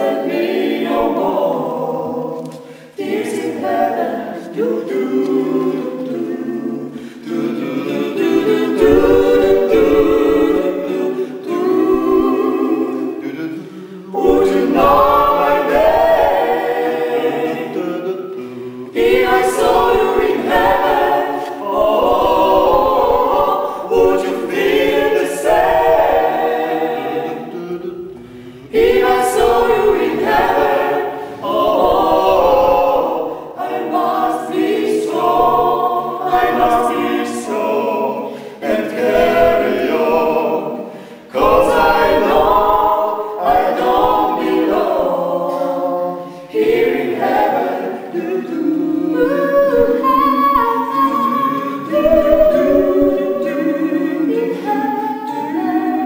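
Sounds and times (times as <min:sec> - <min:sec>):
a cappella ensemble singing: 0:00.0 - 0:56.0.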